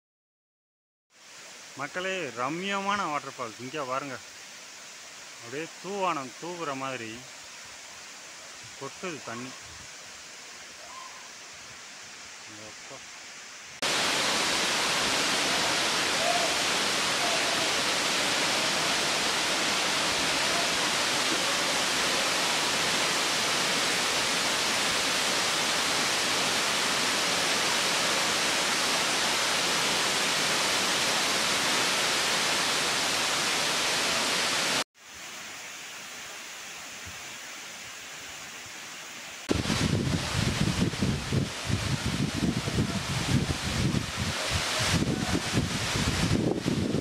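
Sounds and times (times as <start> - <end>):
waterfall rushing: 1.2 - 47.0.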